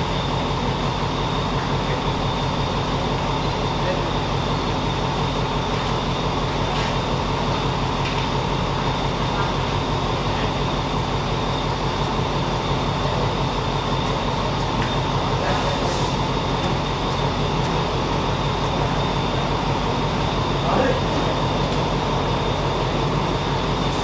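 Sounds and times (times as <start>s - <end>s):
locomotive engine drone: 0.0s - 24.0s
steady high whine: 0.0s - 24.0s.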